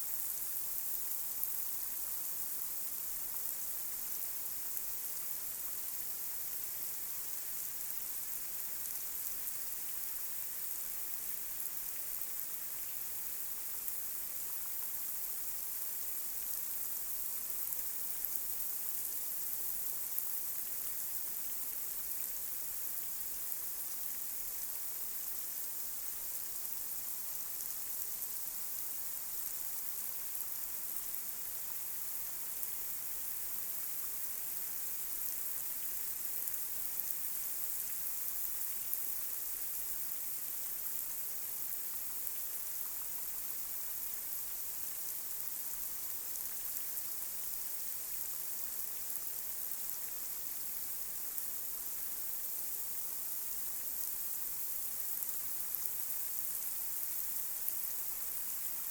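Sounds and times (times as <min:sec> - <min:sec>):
light rain hissing: 0:00.0 - 0:58.9.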